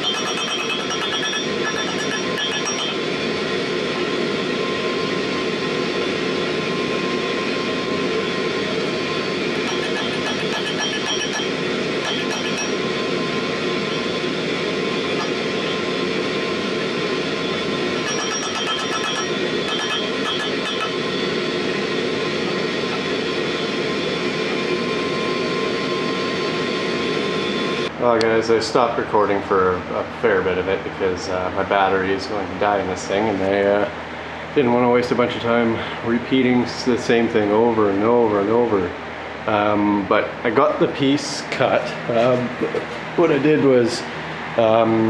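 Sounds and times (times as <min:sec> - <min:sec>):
forge burner roaring: 0:00.0 - 0:45.0.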